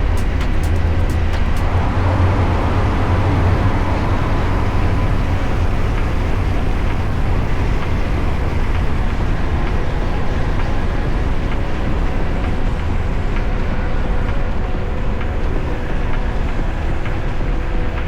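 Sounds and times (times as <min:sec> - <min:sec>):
motorcycle engine and road rumble: 0:00.0 - 0:18.0
wind noise on microphone: 0:00.0 - 0:18.0.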